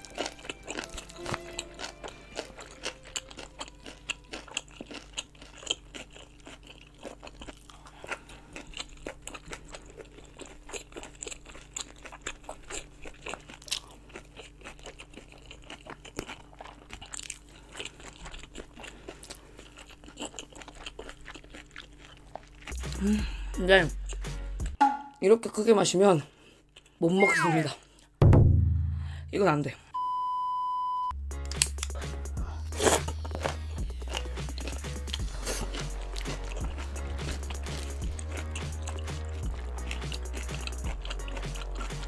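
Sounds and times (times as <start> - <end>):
person chewing and crunching: 0.0 - 24.8, 26.3 - 28.1, 31.5 - 42.0.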